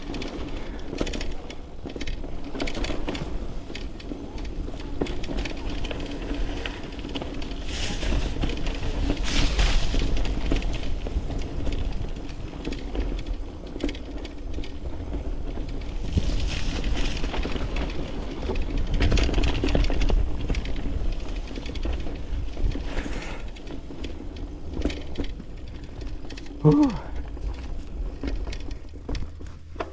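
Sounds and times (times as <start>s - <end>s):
bike chain and frame rattling: 0.0s - 29.9s
bike tyres rolling over dirt: 0.0s - 29.9s
wind rumbling on microphone: 0.0s - 29.9s.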